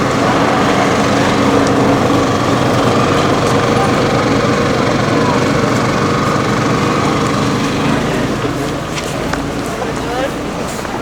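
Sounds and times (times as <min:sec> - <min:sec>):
crowd chatter: 0:00.0 - 0:11.0
passing traffic: 0:00.0 - 0:11.0.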